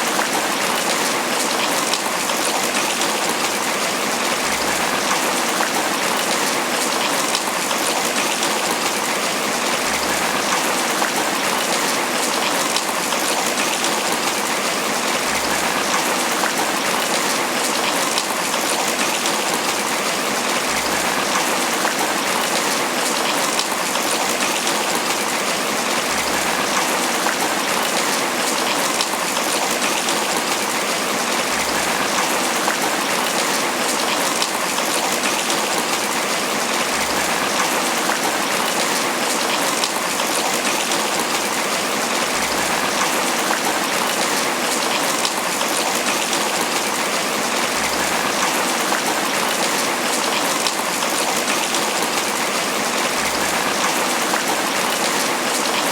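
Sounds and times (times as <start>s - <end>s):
rain pattering on leaves: 0.0s - 55.9s.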